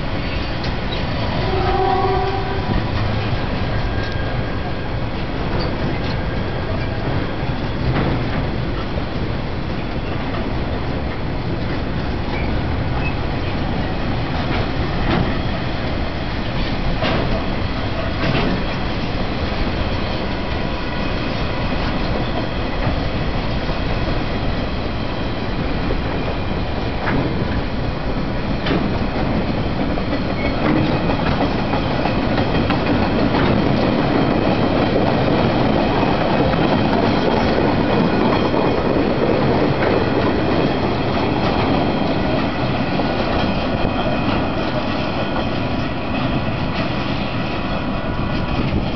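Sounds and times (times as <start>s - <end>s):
train wheels rumbling: 0.0s - 48.9s.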